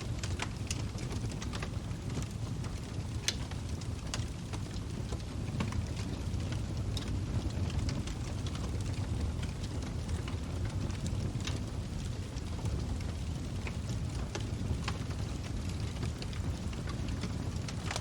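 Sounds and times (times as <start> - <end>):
log fire crackling and popping: 0.0 - 18.0.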